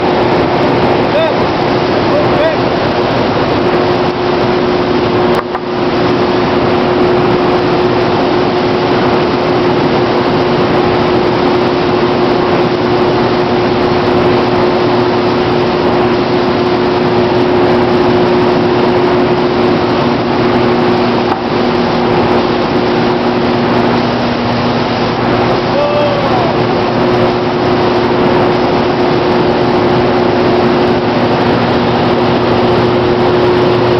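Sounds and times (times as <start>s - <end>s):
sprayer motor hum: 0.0s - 33.9s.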